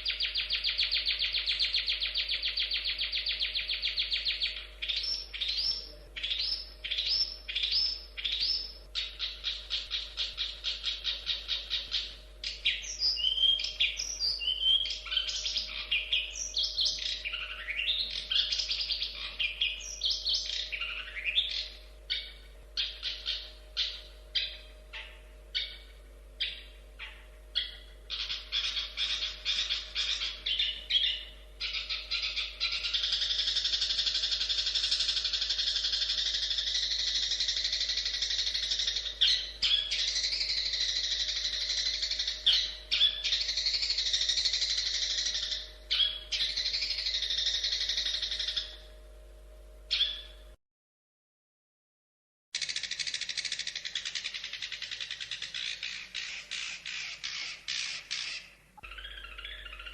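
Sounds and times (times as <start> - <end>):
shrike singing: 0.0 - 49.0, 52.6 - 59.9.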